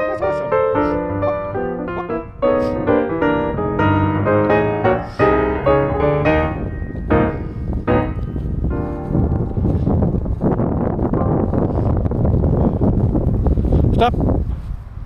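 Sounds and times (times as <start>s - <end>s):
piano music: 0.0s - 12.8s.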